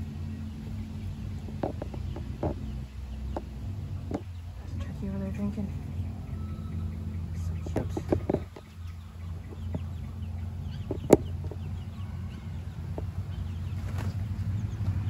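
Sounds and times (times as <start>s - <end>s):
chickens and turkeys calling: 0.0s - 15.0s
steady low hum: 0.0s - 15.0s.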